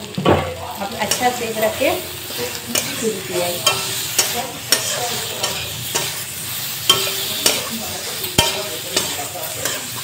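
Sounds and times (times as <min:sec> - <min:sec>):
frying sizzle: 0:00.0 - 0:10.0
spatula clinking against pan: 0:01.0 - 0:10.0
spatula scraping a metal pan: 0:01.0 - 0:10.0.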